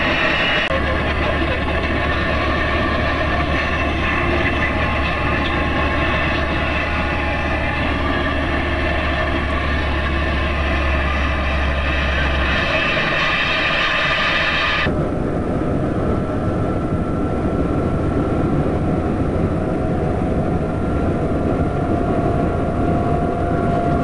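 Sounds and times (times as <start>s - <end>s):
road and wind noise: 0.0s - 24.0s
truck diesel engine droning: 0.0s - 24.0s.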